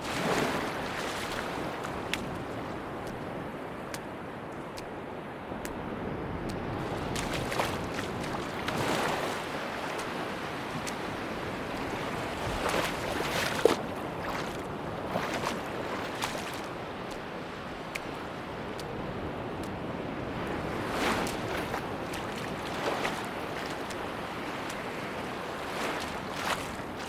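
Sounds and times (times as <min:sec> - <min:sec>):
sea waves washing onto beach: 0:00.0 - 0:27.0.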